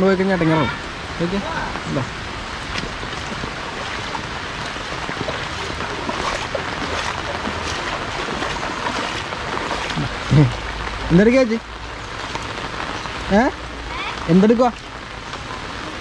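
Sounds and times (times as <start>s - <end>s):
rain falling on water: 0.0s - 16.0s
rain pattering on umbrella: 1.0s - 16.0s.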